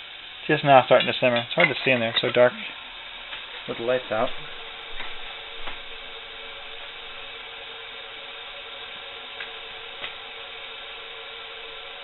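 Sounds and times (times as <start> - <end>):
water simmering in a pot: 0.0 - 12.0.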